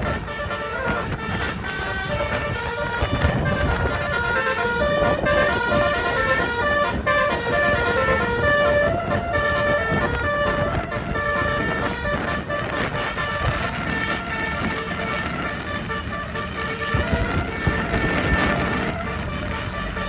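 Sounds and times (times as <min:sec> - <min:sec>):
musical bus horn playing a tune: 0:00.0 - 0:20.0.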